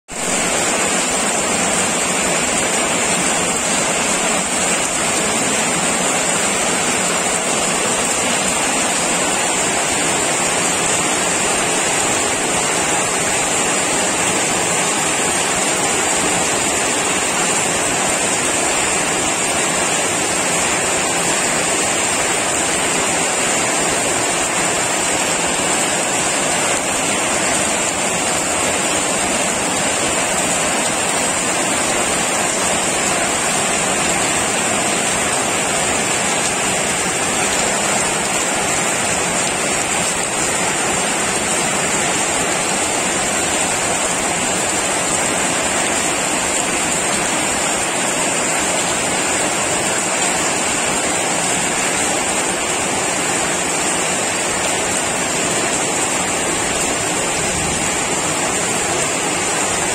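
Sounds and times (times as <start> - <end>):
heavy rain on roofs: 0.0 - 59.9.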